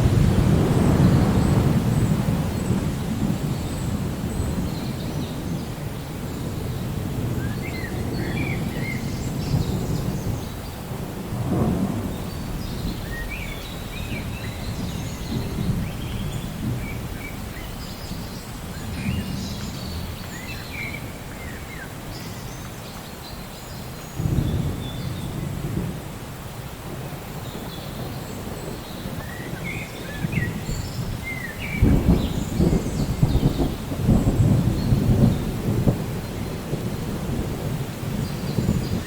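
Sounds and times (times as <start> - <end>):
rolling thunder: 0.0 - 21.6, 24.2 - 26.1, 26.8 - 39.0
steady rain: 0.0 - 39.0.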